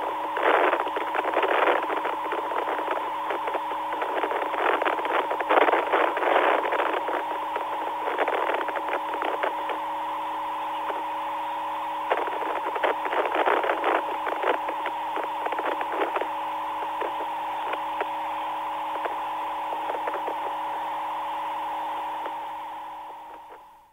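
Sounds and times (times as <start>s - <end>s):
crackling static and clicks: 0.0s - 23.9s
radio line hum: 0.0s - 23.9s.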